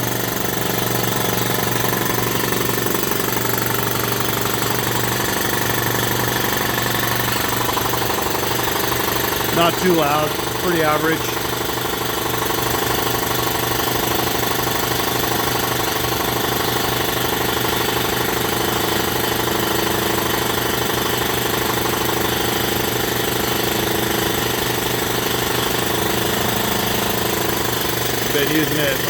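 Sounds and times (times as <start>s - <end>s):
air compressor running: 0.0s - 29.0s.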